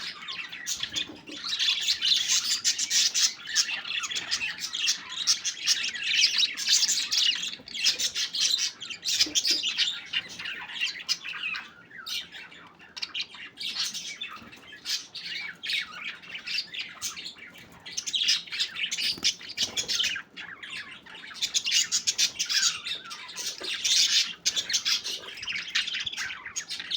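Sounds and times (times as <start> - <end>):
budgerigars chirping and squawking: 0.0 - 26.9.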